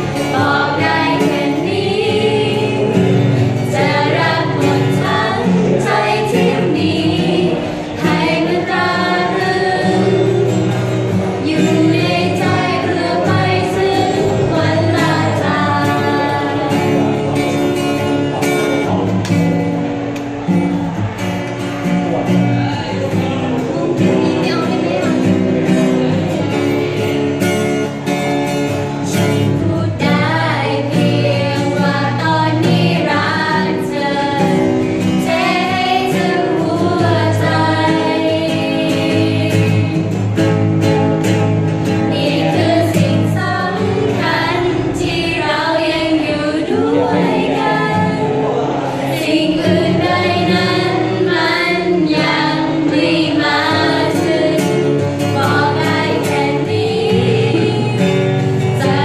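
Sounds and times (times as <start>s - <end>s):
girls singing together: 0.0s - 21.2s, 22.7s - 59.0s
strummed acoustic guitar: 0.0s - 59.0s.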